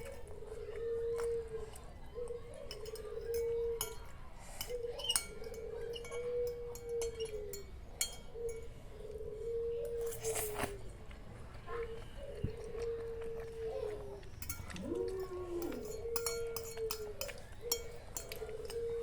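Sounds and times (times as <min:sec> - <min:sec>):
utensils clinking on a bowl: 0:00.0 - 0:10.9, 0:12.6 - 0:19.0.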